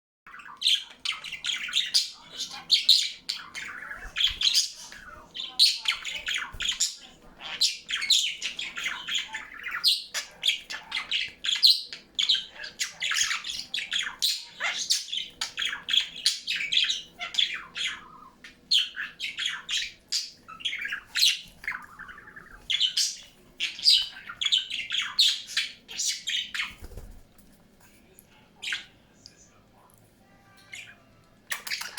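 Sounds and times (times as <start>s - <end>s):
pet bird chirping: 0.3s - 27.1s, 30.6s - 31.9s.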